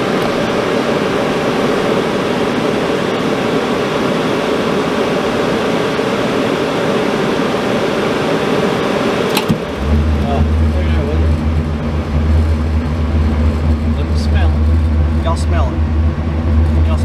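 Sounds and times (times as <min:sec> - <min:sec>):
furnace blower whooshing: 0:00.0 - 0:17.0.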